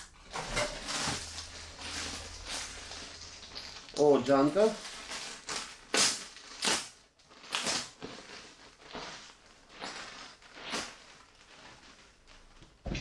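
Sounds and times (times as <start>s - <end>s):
plastic bag crinkling: 0.1s - 12.8s.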